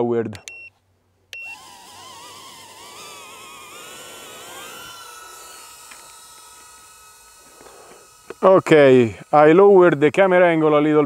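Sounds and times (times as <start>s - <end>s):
drone motors whining: 1.4s - 11.0s.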